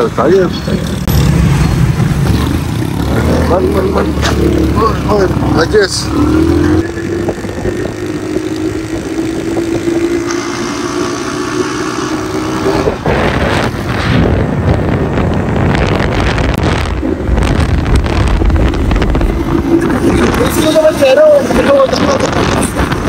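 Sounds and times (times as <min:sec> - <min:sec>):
vehicle engine humming: 0:00.0 - 0:23.0
wind buffeting microphone: 0:01.0 - 0:10.3, 0:11.0 - 0:23.0.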